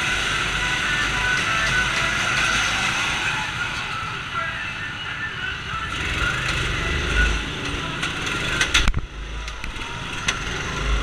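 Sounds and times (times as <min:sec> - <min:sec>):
go-kart engines rumbling: 0:00.0 - 0:04.8, 0:05.8 - 0:11.0.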